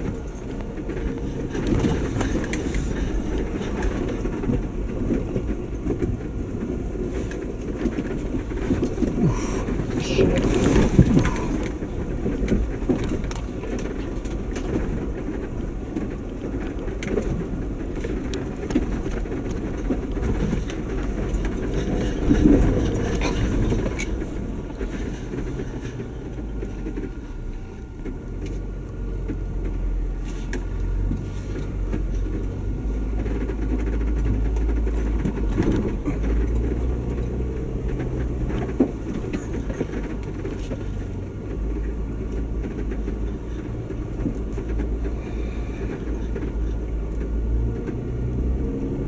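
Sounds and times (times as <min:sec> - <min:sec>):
engine rumble: 0:00.0 - 0:49.0
knocks and rattles over bumps: 0:00.0 - 0:49.0
tyre noise: 0:00.0 - 0:49.0.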